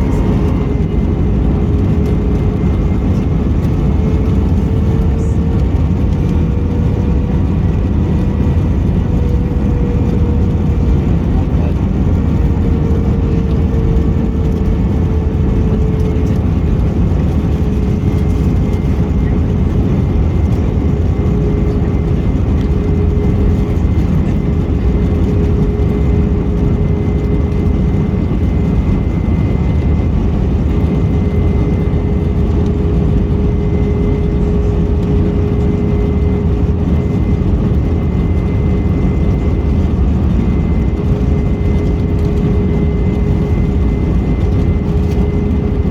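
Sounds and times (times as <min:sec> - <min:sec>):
airplane cabin engine roar: 0:00.0 - 0:45.9.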